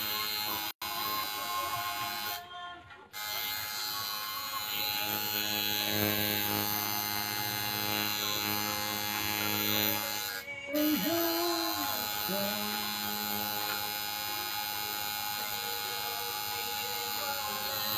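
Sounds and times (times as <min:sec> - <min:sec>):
tattoo machine buzzing: 0:00.0 - 0:02.4, 0:03.1 - 0:17.9.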